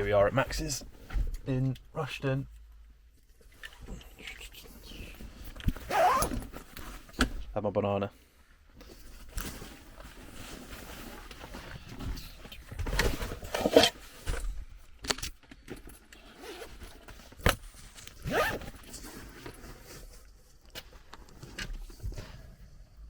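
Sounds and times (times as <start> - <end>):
rustling and handling noises: 0.0 - 7.5, 8.4 - 23.0.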